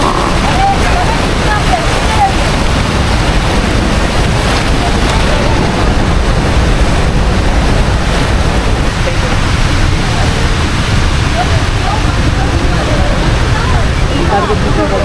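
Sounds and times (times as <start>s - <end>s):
rushing water roar: 0.0s - 15.0s
wind buffeting microphone: 0.0s - 15.0s.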